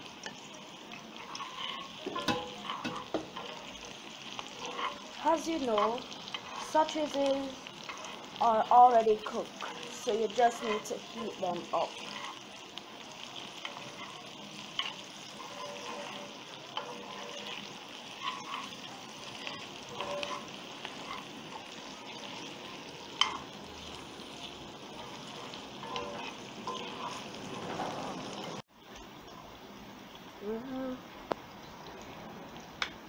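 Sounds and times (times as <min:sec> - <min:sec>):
food sizzling in a frying pan: 0:00.0 - 0:33.0
utensil scraping against pan: 0:01.1 - 0:28.6.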